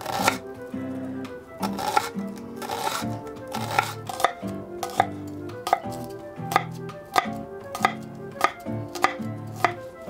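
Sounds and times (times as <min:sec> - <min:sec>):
soft background music: 0:00.0 - 0:10.0
knife chopping on wooden board: 0:01.6 - 0:09.9.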